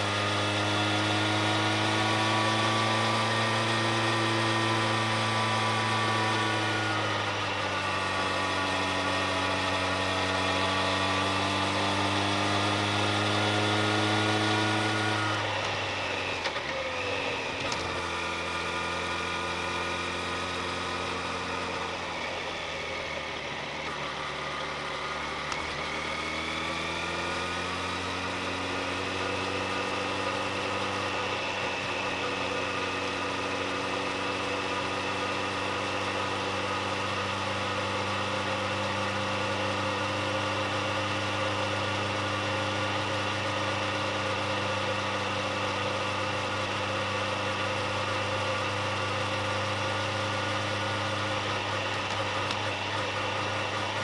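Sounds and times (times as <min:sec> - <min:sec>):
road noise: 0:00.0 - 0:54.0
vehicle engine accelerating: 0:00.0 - 0:54.0.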